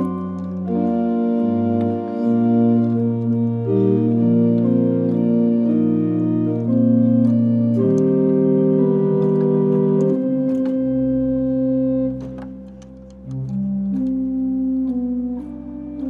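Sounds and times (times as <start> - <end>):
pipe organ chords: 0.0 - 16.0.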